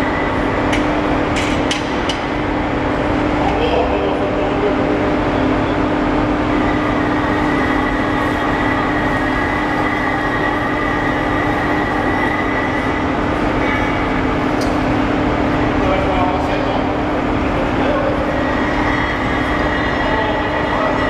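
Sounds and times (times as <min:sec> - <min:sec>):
crane drive humming: 0:00.0 - 0:21.0
thin high whine: 0:02.5 - 0:21.0.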